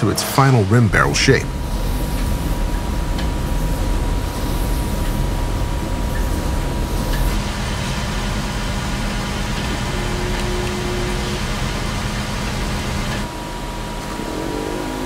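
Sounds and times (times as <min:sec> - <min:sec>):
faint machine whine: 0:00.0 - 0:15.0
industrial machine rumble and hiss: 0:00.0 - 0:15.0.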